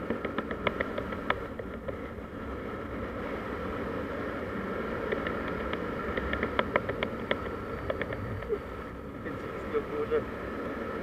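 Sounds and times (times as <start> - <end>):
motor scooter riding: 0.0 - 11.0
wind rush: 2.0 - 11.0.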